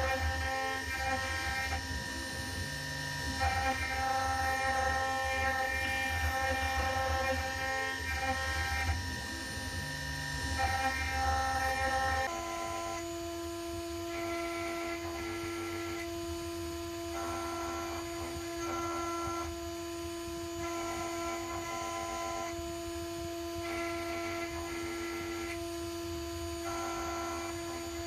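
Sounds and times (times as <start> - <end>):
milling machine motor whine: 0.0 - 28.0.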